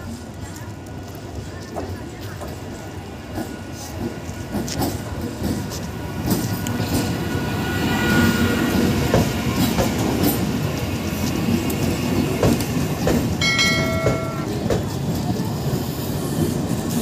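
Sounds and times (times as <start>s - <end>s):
train rumbling into station: 0.0s - 17.0s.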